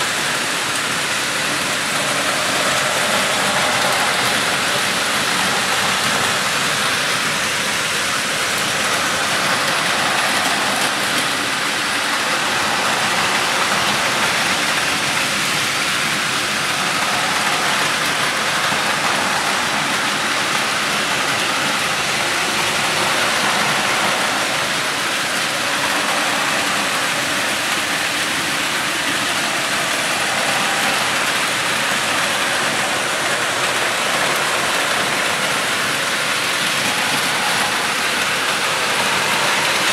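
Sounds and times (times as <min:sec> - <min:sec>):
toy trains clattering on track: 0:00.0 - 0:39.9.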